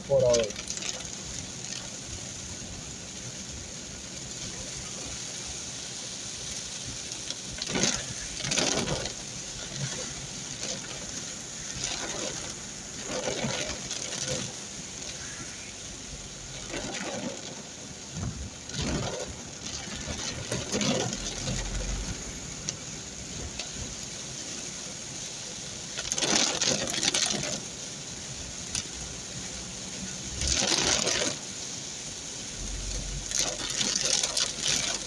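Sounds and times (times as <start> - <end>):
heavy rain: 0.0 - 35.0.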